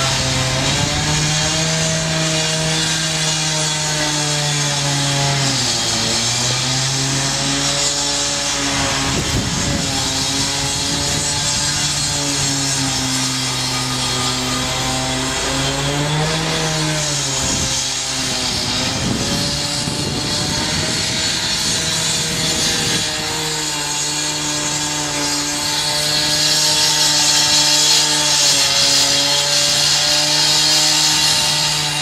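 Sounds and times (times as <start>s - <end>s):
power saw engine cutting: 0.0s - 32.0s.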